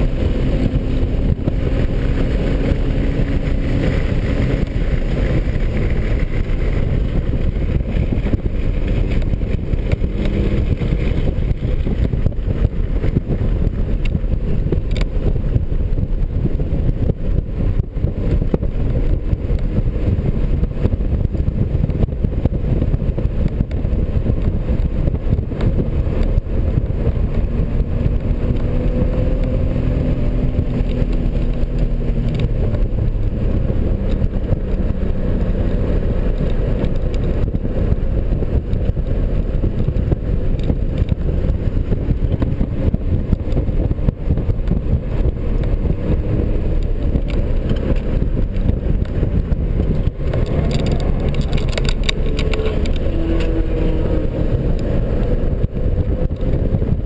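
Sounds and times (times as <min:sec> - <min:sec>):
car engine at speed: 0:00.0 - 0:57.0
road and wind noise: 0:00.0 - 0:57.0.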